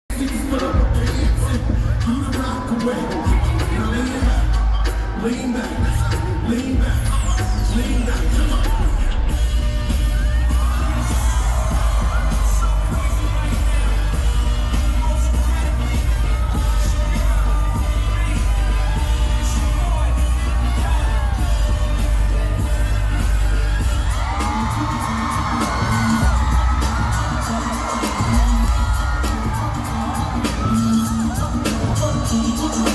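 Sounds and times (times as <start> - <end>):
crowd screaming: 0.1 - 32.9
live pop music with singing: 0.1 - 32.9.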